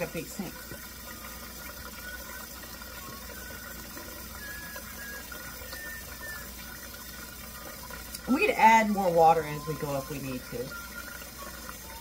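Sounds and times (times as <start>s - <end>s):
tap water filling a pot: 0.0s - 12.0s.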